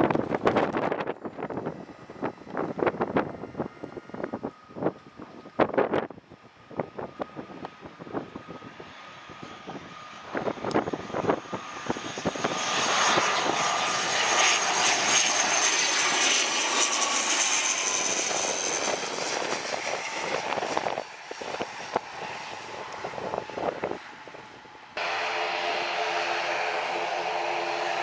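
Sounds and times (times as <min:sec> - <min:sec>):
turboprop airliner passing overhead: 0:00.0 - 0:28.0.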